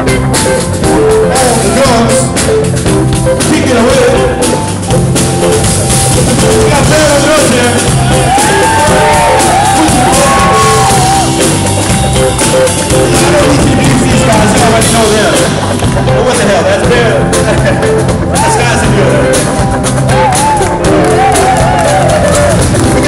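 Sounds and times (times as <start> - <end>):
blues band playing: 0.0 - 23.0
lead guitar bending notes: 0.0 - 23.0.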